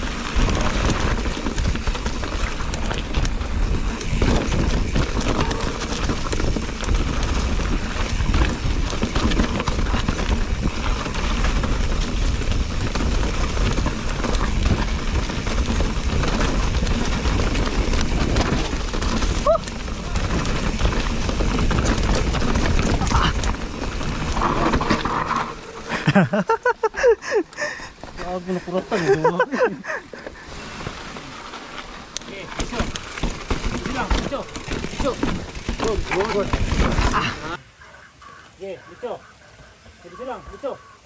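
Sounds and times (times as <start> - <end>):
bike rattling over bumps: 0.0 - 37.6
tyres crunching over stones: 0.0 - 37.6.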